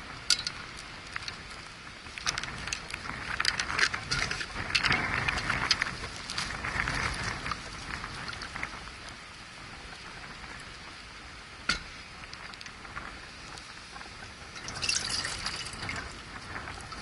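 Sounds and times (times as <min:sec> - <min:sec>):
crackling rustle: 0:00.0 - 0:17.0
wind buffeting microphone: 0:00.0 - 0:17.0.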